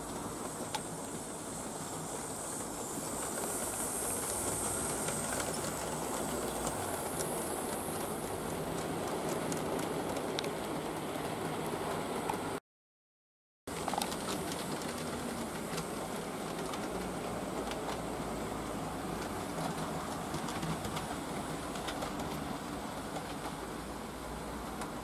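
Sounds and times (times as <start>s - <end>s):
model train wheels rumbling: 0.0s - 12.6s, 13.7s - 25.0s.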